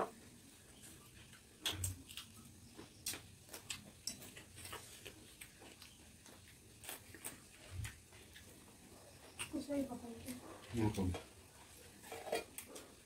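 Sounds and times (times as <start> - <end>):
chewing and mouth noises: 0.8 - 13.0.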